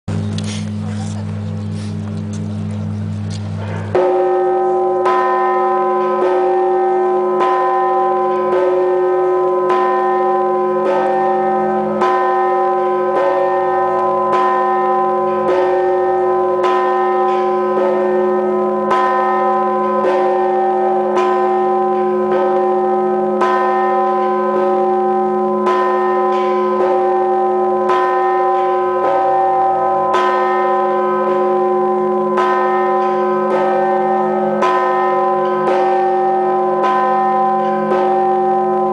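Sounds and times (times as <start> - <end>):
large church bell tolling: 0.1 - 38.9.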